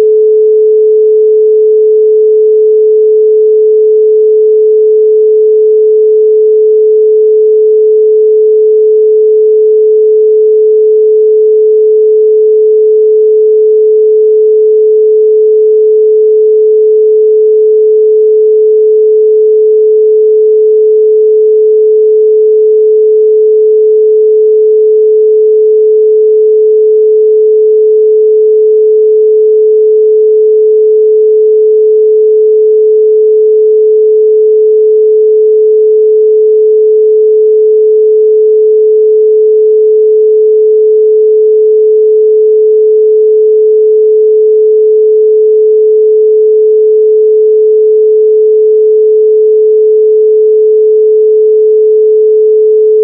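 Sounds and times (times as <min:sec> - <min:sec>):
pure sine tone: 0:00.0 - 0:53.0.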